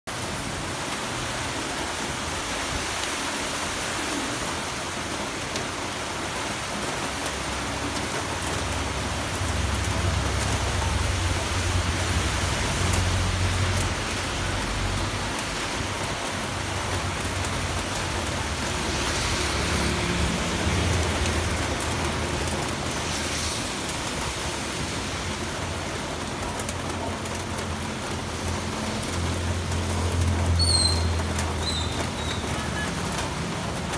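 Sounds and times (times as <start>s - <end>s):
heavy rain on metal roofs: 0.0s - 33.9s.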